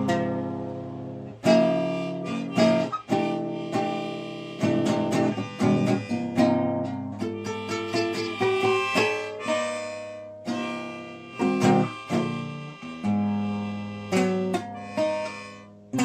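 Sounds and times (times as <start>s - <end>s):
acoustic guitar blues chords: 0.0s - 16.0s.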